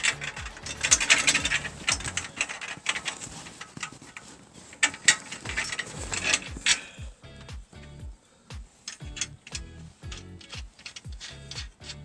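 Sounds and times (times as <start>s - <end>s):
metal clicks and knocks of tools: 0.0s - 7.5s, 8.8s - 12.0s.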